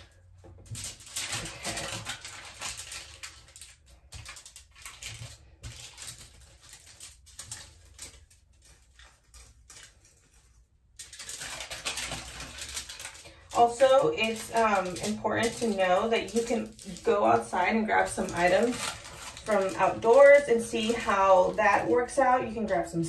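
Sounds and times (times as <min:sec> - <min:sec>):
aluminium foil crinkling: 0:00.0 - 0:23.0
paper cards rustling: 0:00.0 - 0:23.0.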